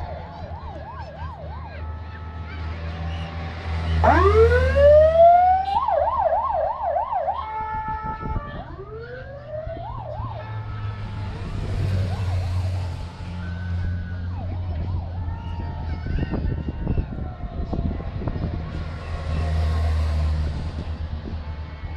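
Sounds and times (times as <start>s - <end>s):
motorcycle sirens wailing and yelping: 0.0s - 20.6s.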